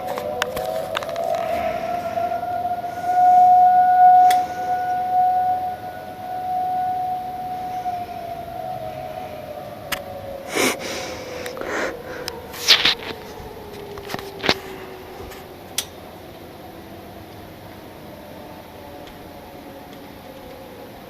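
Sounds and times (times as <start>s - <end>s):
tornado siren winding down: 0.0s - 21.0s.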